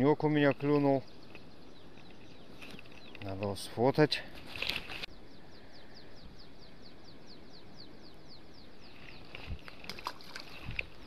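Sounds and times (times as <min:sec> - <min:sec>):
faint outdoor background: 0:00.0 - 0:11.0.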